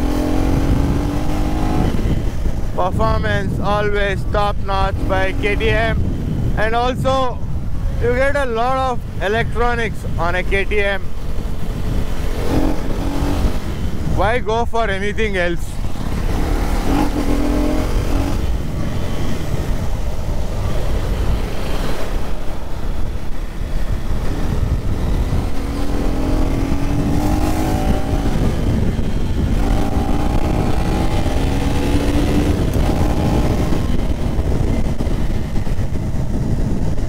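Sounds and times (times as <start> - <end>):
motorcycle engine revving: 0.0 - 3.5, 4.2 - 8.4, 10.1 - 14.2, 15.7 - 37.0
wind rumble on microphone: 0.0 - 37.0.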